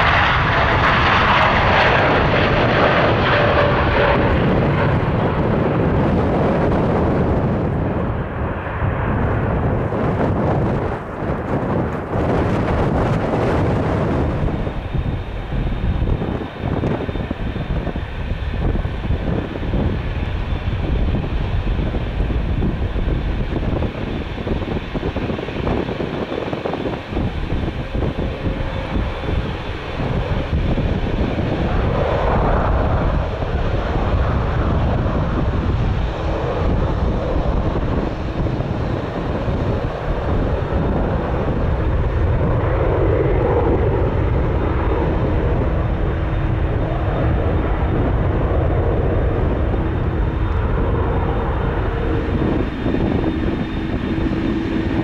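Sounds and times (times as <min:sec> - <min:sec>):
jet engine roar: 0:00.0 - 0:55.0
wind buffeting microphone: 0:00.0 - 0:55.0.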